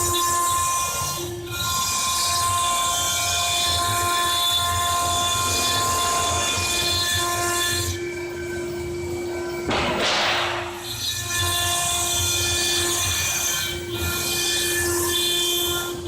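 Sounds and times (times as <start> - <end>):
stone carving machine cutting stone: 0.0 - 9.7, 10.4 - 16.0.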